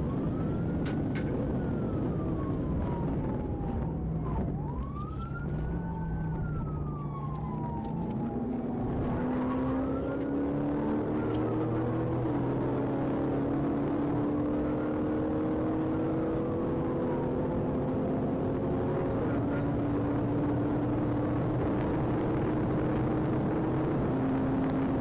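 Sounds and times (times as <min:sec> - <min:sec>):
car engine and road noise: 0:00.0 - 0:25.0
police siren wailing: 0:00.0 - 0:25.0.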